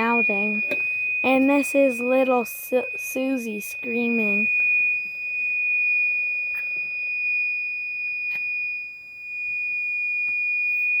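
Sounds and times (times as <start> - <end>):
high-pitched electronic beep tone: 0.0 - 11.0.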